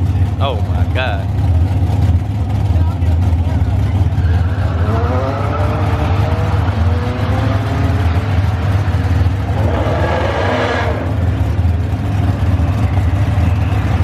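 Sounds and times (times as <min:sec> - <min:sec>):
drag racing car engines droning: 0:00.0 - 0:14.0.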